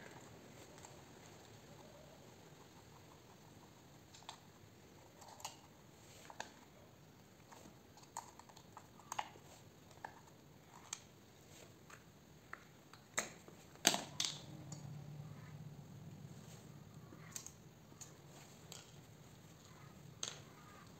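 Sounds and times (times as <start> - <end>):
faint low hum: 0.0 - 20.9.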